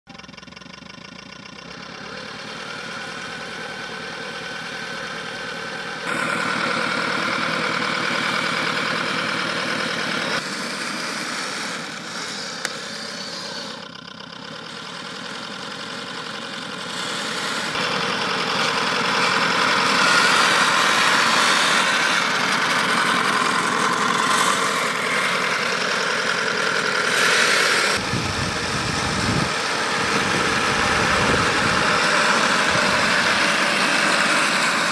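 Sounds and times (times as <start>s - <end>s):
model tank mechanical drone: 0.1s - 34.9s.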